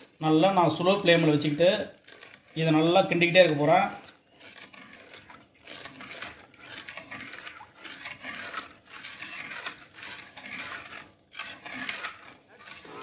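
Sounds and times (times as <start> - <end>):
ladle stirring and scraping pan: 0.0 - 13.0.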